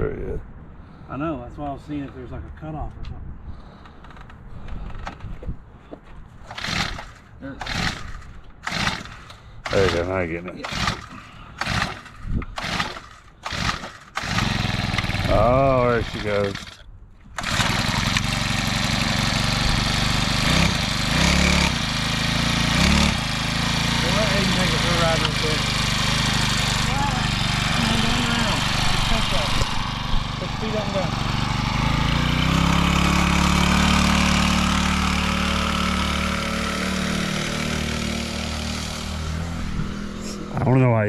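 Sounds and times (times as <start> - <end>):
small engine idling: 6.5 - 39.6.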